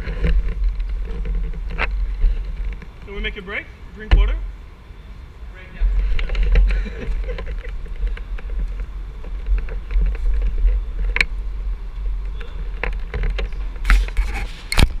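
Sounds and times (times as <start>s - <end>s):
camera handling rumble: 0.0s - 3.1s, 6.0s - 15.0s.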